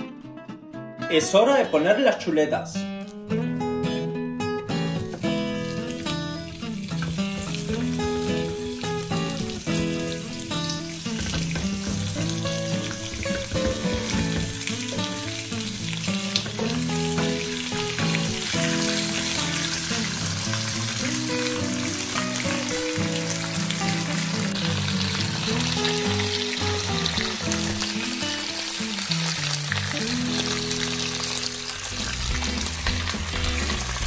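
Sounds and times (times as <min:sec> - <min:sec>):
background music: 0:00.0 - 0:34.0
meat sizzling in a pan: 0:04.8 - 0:34.0.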